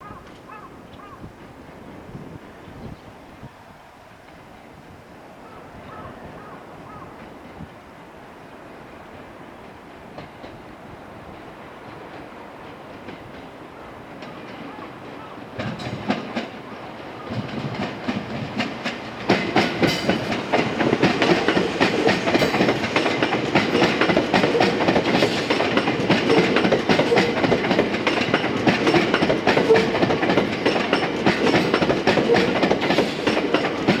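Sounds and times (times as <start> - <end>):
train wheels clacking on rails: 5.8 - 7.9, 8.8 - 34.0.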